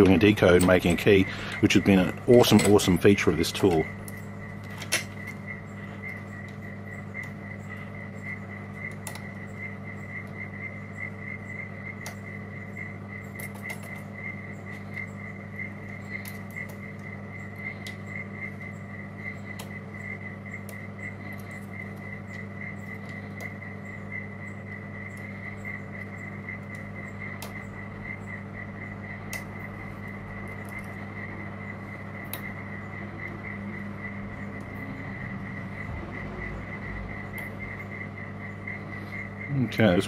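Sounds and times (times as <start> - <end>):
rapid high-pitched pulsing tone: 0.0 - 40.0
steady low hum: 0.0 - 40.0.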